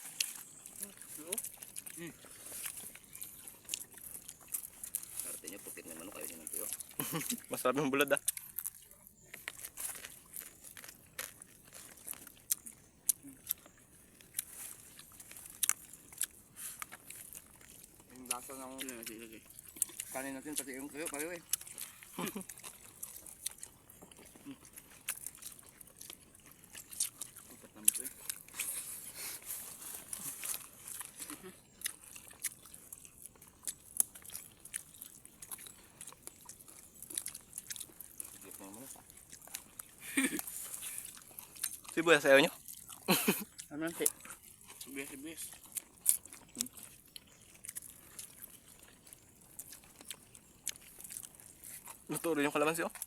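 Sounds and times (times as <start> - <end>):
crunching dried fish: 0.0 - 53.0.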